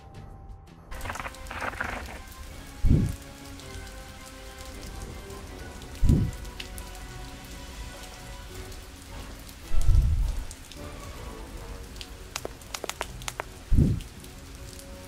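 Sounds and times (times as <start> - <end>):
rain pattering: 0.9 - 15.0.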